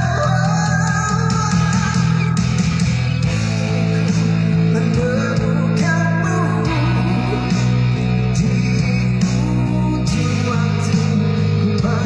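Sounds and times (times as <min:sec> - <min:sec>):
man singing into microphone: 0:00.0 - 0:02.4, 0:04.6 - 0:12.0
amplified backing music with guitar: 0:00.0 - 0:12.0.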